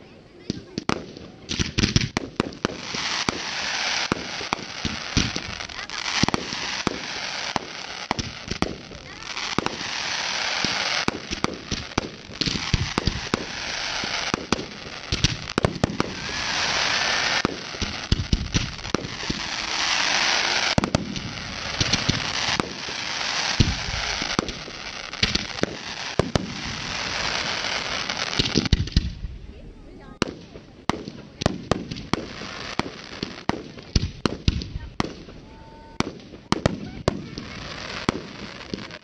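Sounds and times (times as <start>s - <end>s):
fireworks bursting with bangs: 0.0s - 39.0s
fireworks crackling hiss: 0.0s - 39.0s.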